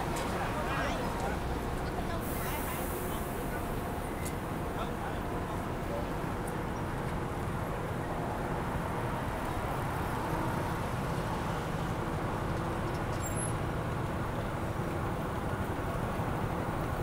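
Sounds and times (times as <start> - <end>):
city street traffic hum: 0.0 - 17.0.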